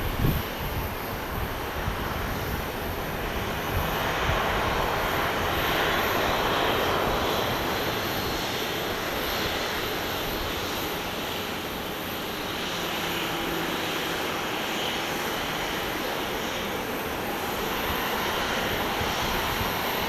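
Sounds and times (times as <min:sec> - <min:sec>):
airliner engines passing: 0:00.0 - 0:20.0.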